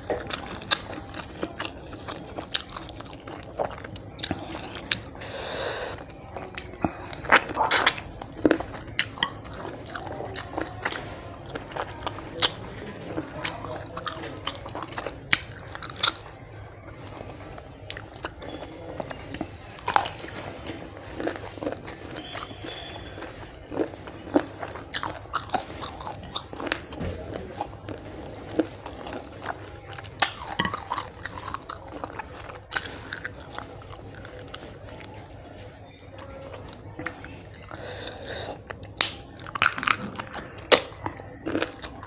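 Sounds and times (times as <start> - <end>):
chewing and lip smacks: 0.0 - 42.0.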